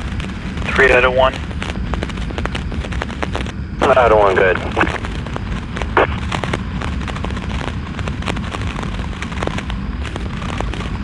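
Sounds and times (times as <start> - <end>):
crackling pops and clicks: 0.0 - 11.0.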